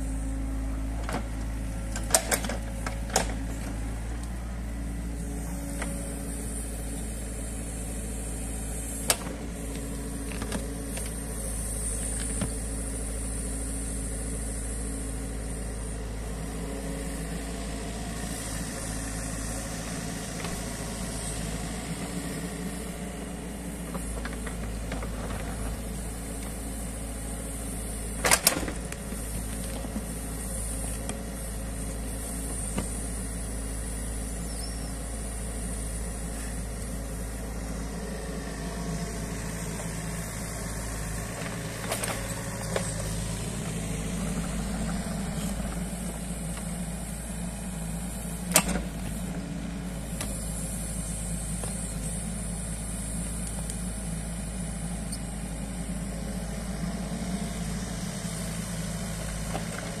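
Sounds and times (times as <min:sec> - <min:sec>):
excavator diesel engine running: 0:00.0 - 1:00.0.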